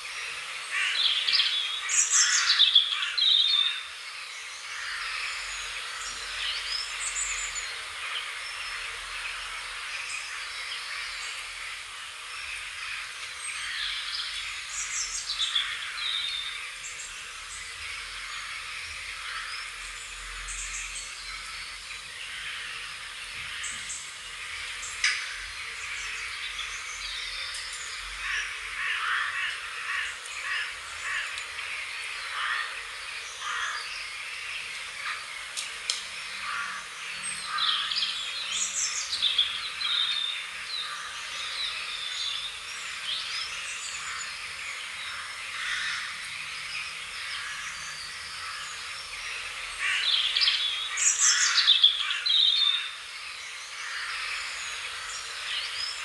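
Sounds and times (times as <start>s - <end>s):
steady outdoor hiss: 0.0s - 56.0s
wild birds chirping: 0.0s - 56.0s.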